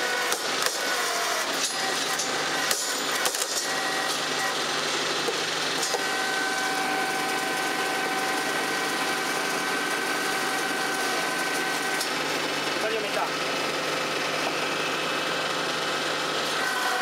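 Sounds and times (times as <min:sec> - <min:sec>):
hydraulic log splitter running: 0:00.0 - 0:17.0
steady machine whine: 0:00.0 - 0:17.0.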